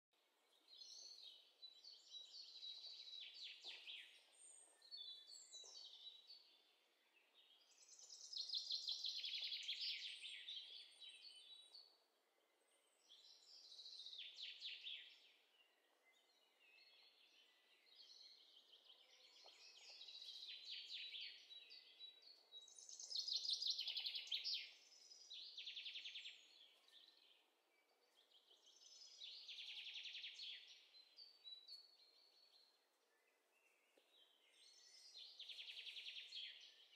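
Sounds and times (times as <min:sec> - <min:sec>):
songbirds chirping and trilling: 0:00.2 - 0:36.9.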